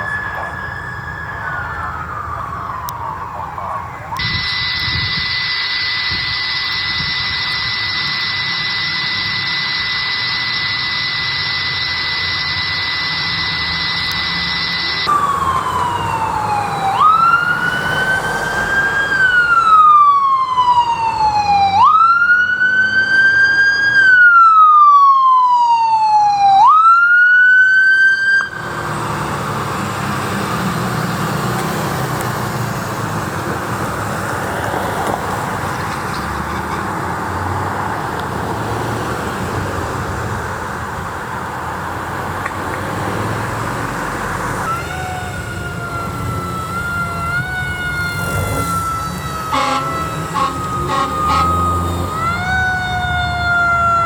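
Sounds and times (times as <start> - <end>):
emergency vehicle siren: 0.0 - 54.0
passing traffic noise: 0.0 - 54.0.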